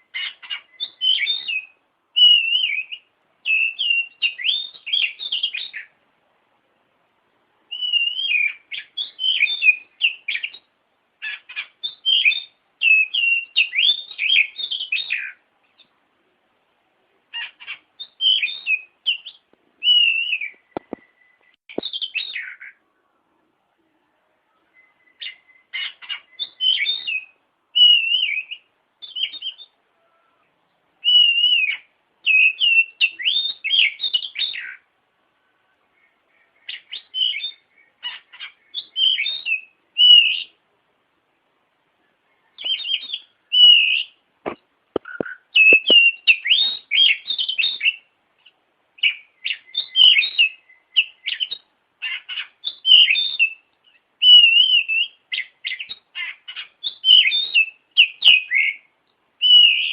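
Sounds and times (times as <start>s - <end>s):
bird singing whistles and chatter: 0.1s - 6.0s, 7.7s - 15.4s, 17.3s - 22.8s, 24.5s - 30.4s, 31.0s - 34.8s, 36.0s - 40.6s, 42.3s - 44.2s, 45.0s - 59.9s.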